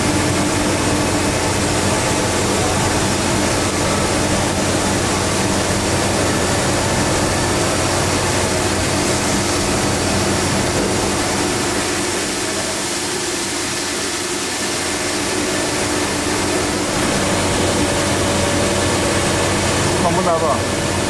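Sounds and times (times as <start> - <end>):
grinder machine hum and hiss: 0.0 - 21.0.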